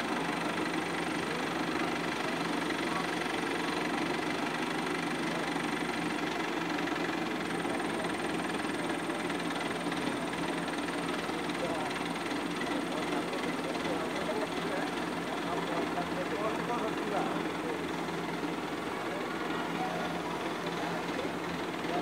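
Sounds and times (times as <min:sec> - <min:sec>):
crane diesel engine running: 0:00.0 - 0:22.0.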